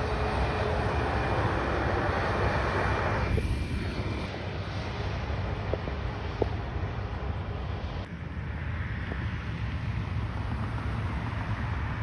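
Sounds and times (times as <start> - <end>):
airliner jet engine rush: 0.0 - 12.0
low rumble: 0.0 - 12.0.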